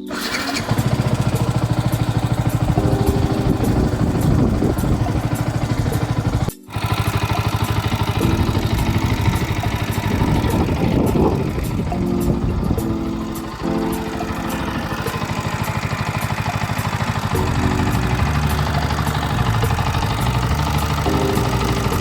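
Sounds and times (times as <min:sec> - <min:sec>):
motorcycle engine idling: 0:00.1 - 0:22.0.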